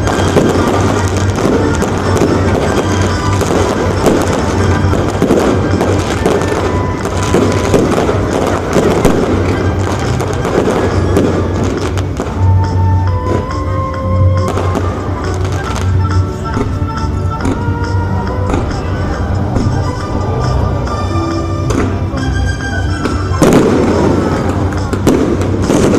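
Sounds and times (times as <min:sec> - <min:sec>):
fireworks bangs and crackling: 0:00.0 - 0:25.9
music playing: 0:00.0 - 0:25.9.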